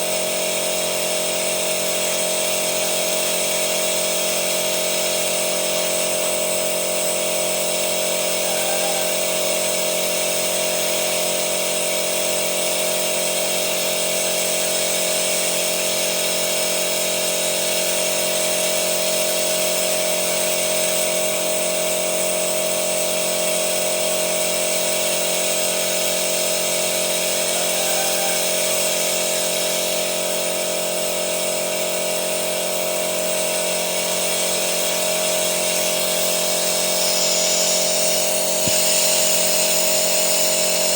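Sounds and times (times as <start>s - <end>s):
motor running with whine: 0.0s - 40.9s.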